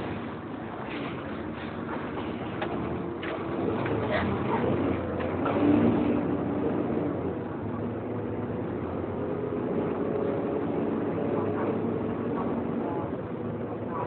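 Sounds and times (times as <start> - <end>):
bus engine and fan drone: 0.0 - 14.0.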